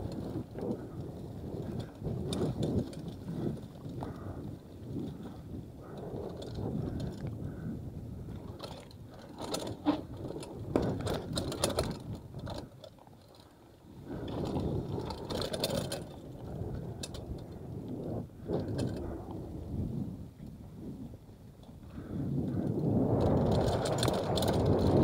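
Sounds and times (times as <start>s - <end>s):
bike chain and frame rattle: 0.0s - 20.7s, 21.6s - 25.0s
bike tyres on rough trail: 0.0s - 25.0s.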